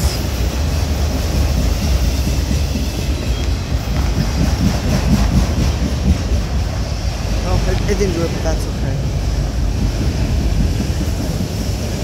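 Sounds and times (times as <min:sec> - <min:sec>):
freight train wheels rumbling on rails: 0:00.0 - 0:12.0.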